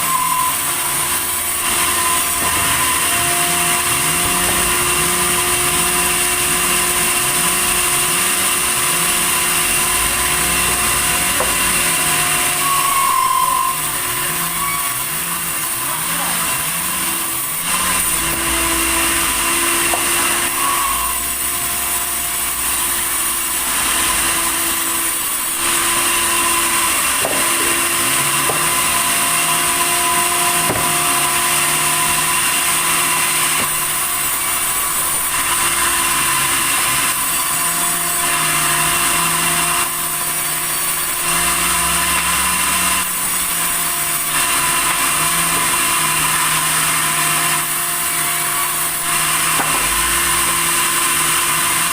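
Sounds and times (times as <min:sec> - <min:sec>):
sawmill saw cutting timber: 0:00.0 - 0:51.9.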